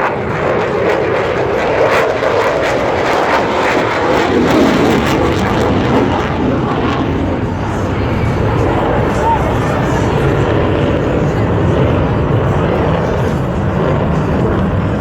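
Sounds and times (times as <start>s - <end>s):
jet noise: 0.0s - 15.0s.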